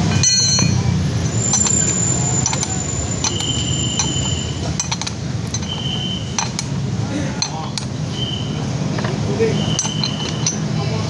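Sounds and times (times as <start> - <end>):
wrench clinking on metal: 0.0 - 6.7, 7.4 - 7.9, 9.0 - 10.8.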